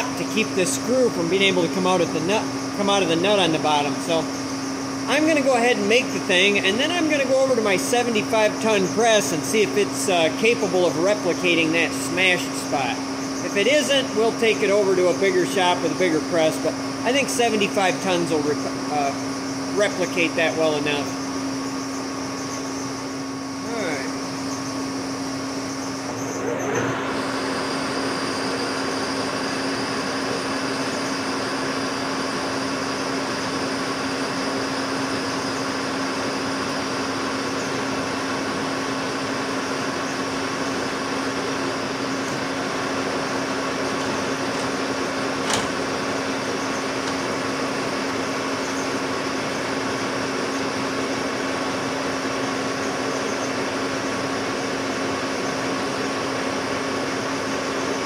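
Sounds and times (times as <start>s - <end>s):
metal lathe humming: 0.0s - 58.0s.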